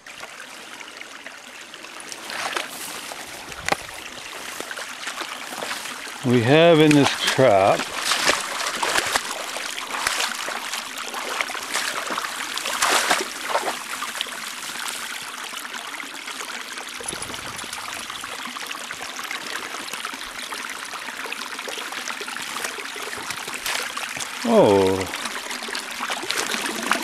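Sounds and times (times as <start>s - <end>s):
creek water flowing: 0.0s - 27.0s
rush of water: 0.0s - 27.0s.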